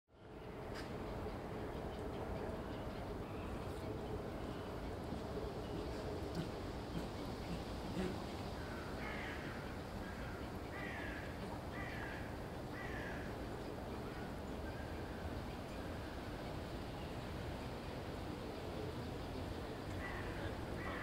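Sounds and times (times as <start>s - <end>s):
steady background hiss: 0.2s - 21.0s.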